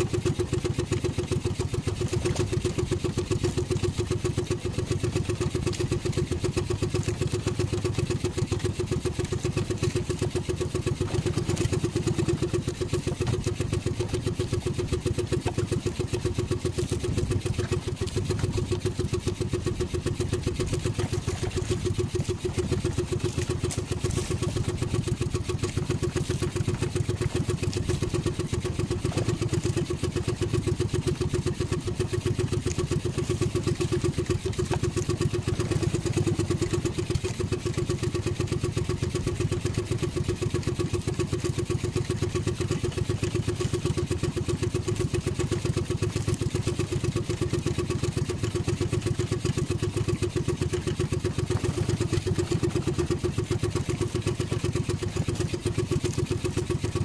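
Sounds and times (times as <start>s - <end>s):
small boat engine running: 0.0s - 57.0s.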